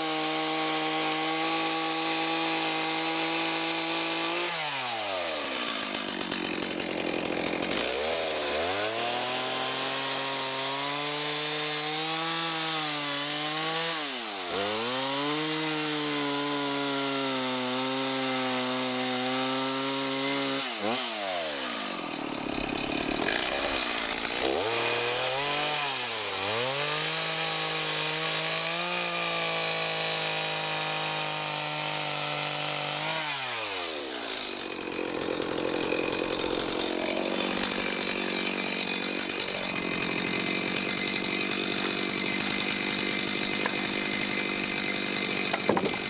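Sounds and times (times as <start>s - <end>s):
chainsaw revving and idling: 0.0s - 46.0s.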